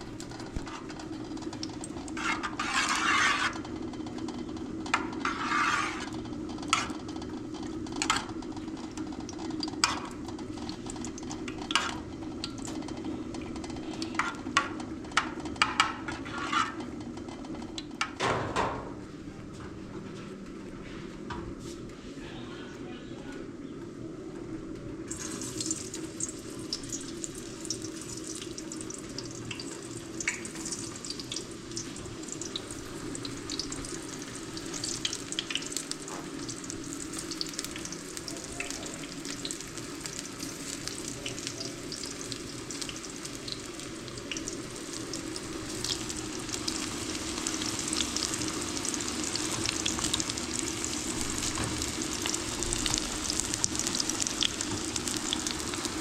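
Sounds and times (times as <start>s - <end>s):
sizzling and crackling with pops: 0.0s - 18.2s, 25.1s - 56.0s.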